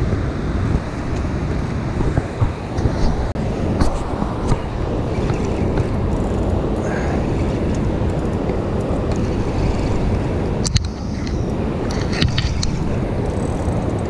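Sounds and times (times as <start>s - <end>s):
rushing water roar: 0.0s - 14.0s
wind on microphone: 0.0s - 14.0s.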